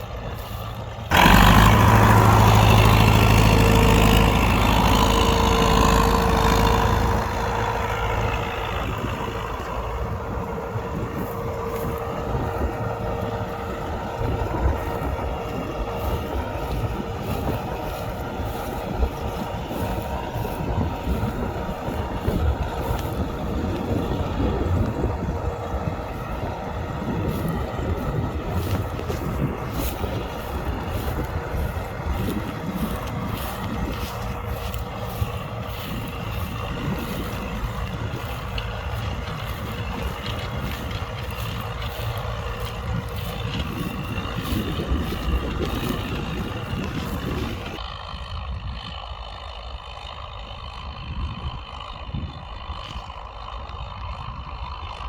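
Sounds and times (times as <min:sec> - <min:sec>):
tractor diesel engine under load: 0:00.0 - 0:55.0
wind buffeting microphone: 0:00.0 - 0:55.0.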